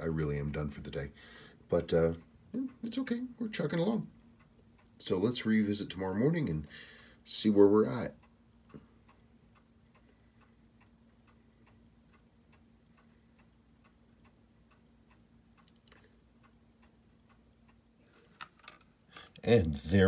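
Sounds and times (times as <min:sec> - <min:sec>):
faint steady hum: 0:00.0 - 0:20.0
watch ticking fast: 0:00.0 - 0:20.0.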